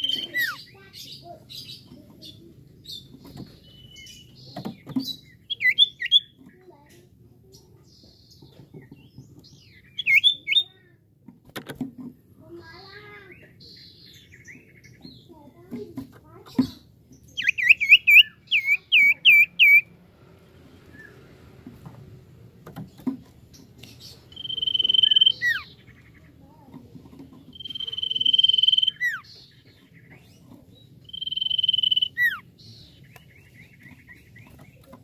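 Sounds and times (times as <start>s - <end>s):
bird singing: 0.0s - 10.9s, 12.5s - 15.8s, 16.6s - 19.9s, 22.8s - 35.0s.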